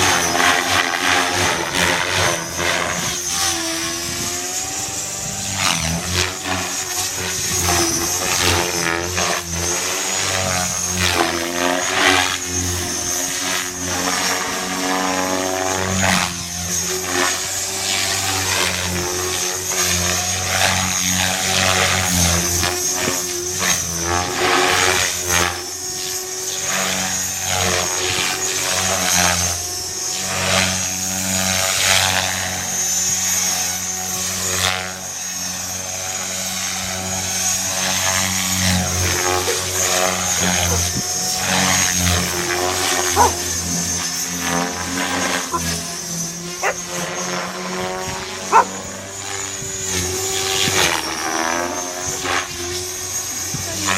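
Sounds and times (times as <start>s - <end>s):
model helicopter motor whine: 0.0s - 53.9s.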